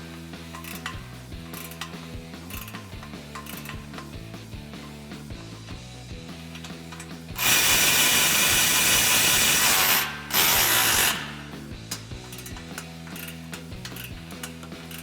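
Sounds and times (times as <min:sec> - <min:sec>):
light ratchet clicks: 0:00.1 - 0:05.0, 0:06.5 - 0:15.0
power tool tightening bolts: 0:00.4 - 0:05.0, 0:06.5 - 0:15.0.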